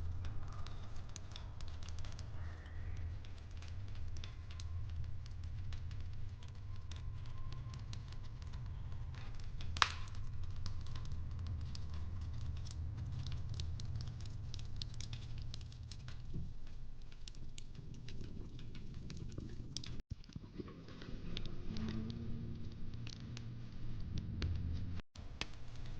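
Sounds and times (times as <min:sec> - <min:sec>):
fireplace crackling: 0:00.0 - 0:25.9.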